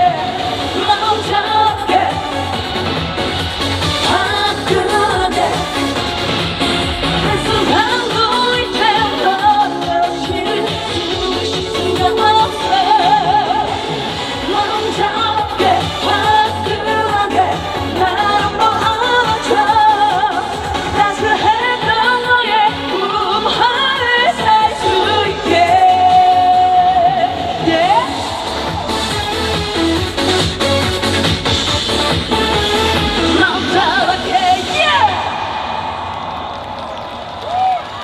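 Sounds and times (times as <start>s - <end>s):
woman singing with vibrato: 0.0s - 3.1s, 3.9s - 28.9s, 32.7s - 35.8s
backing track with steady beat: 0.0s - 34.8s.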